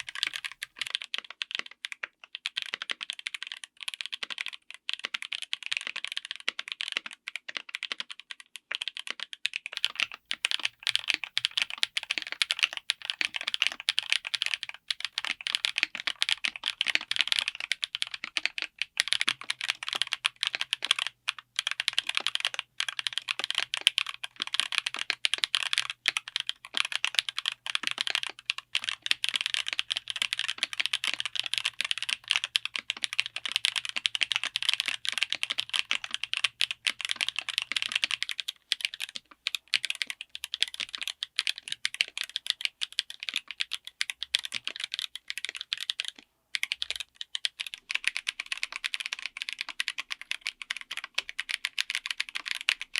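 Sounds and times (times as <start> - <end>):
mechanical keyboard typing: 0.0 - 52.9.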